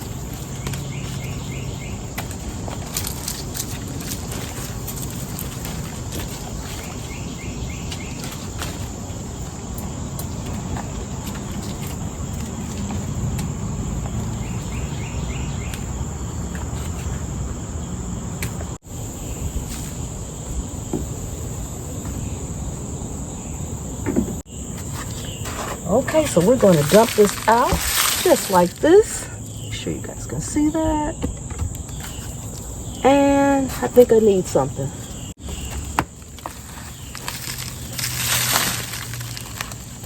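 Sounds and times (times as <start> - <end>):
insect chorus drone: 0.0 - 40.0.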